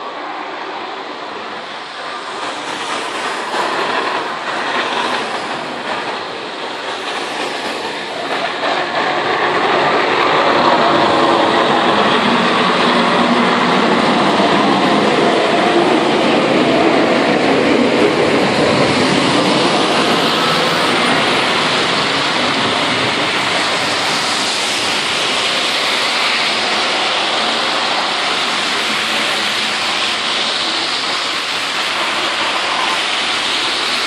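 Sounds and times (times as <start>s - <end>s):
tyres on slushy road: 0.0s - 34.0s
plow blade pushing wet snow: 2.2s - 34.0s.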